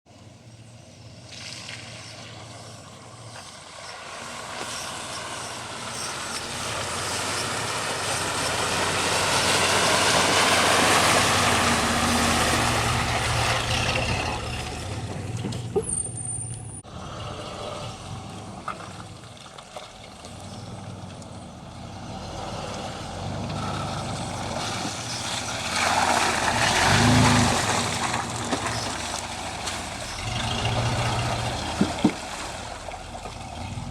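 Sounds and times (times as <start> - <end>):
suv engine working hard: 2.6 - 19.1, 20.0 - 33.9.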